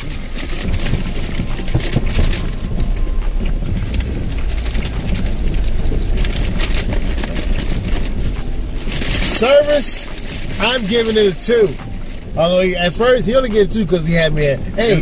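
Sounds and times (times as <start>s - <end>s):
low rumble inside a car: 0.0s - 15.0s
paper bag rustling and crinkling: 0.0s - 15.0s.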